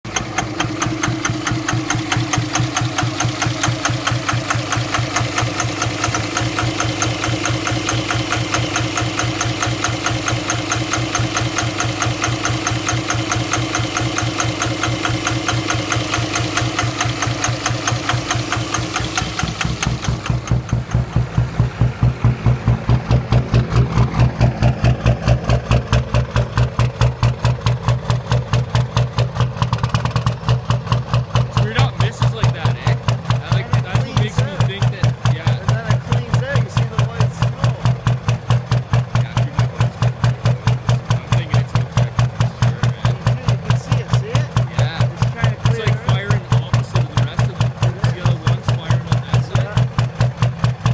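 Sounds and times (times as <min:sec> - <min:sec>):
diesel engine misfiring: 0:00.0 - 0:50.9.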